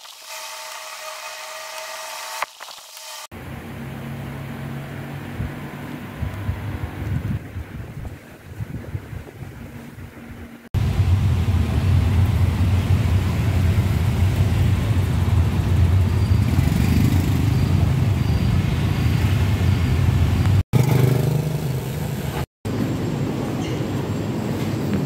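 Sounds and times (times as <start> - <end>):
car road and engine rumble: 3.4 - 25.0.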